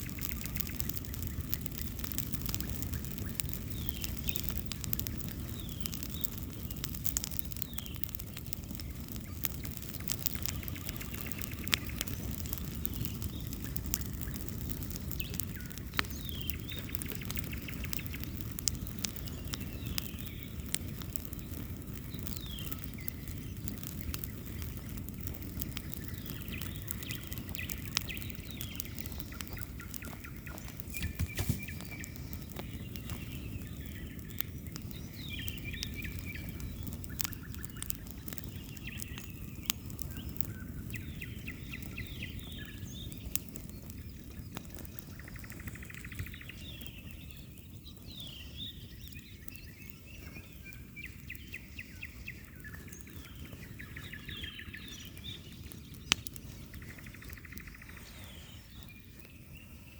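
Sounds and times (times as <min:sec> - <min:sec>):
bonfire crackling and popping: 0:00.0 - 0:59.9
songbirds chirping: 0:00.0 - 0:59.9.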